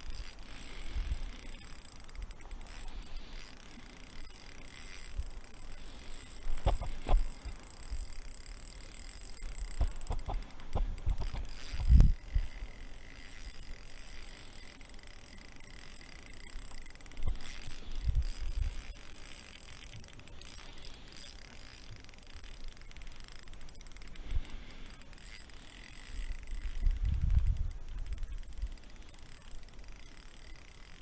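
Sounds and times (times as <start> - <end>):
fishing reel ticking and whirring: 0.0 - 31.0.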